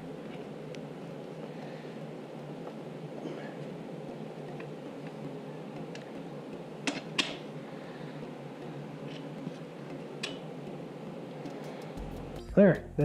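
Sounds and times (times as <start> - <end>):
room noise: 0.0 - 13.0.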